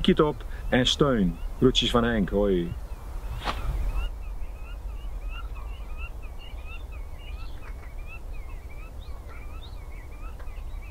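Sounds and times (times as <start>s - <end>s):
birds whistling: 0.3s - 10.9s.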